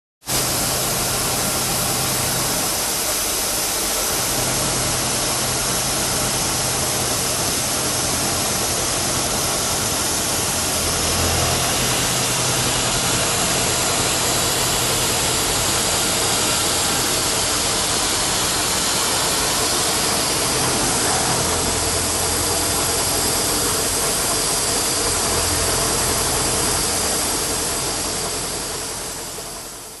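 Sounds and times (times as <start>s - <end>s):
milling machine cutting hiss: 0.3s - 29.8s
low machine hum: 0.3s - 30.0s.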